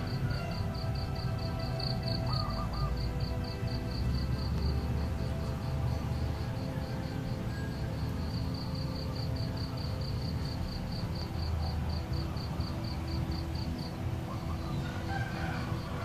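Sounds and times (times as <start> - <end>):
cricket chirping: 0.0 - 16.0
faint sustained tones: 0.0 - 16.0.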